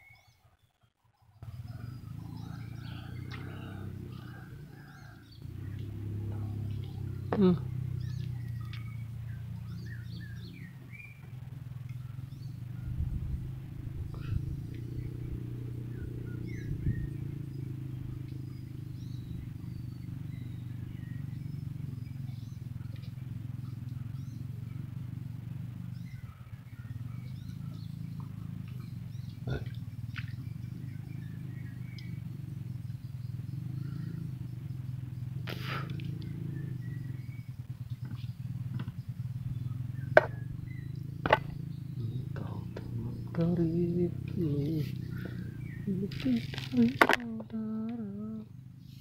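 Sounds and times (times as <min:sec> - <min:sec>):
birds chirping: 0:00.0 - 0:49.0
low engine drone: 0:01.4 - 0:49.0.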